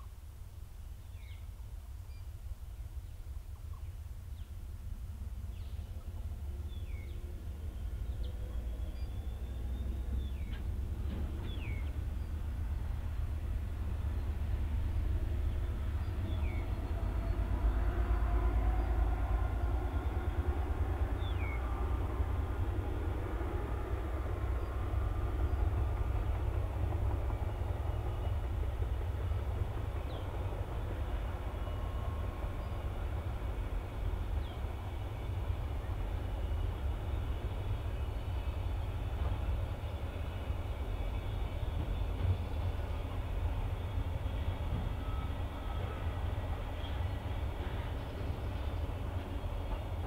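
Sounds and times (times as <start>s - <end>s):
freight train rumbling: 0.0s - 50.0s.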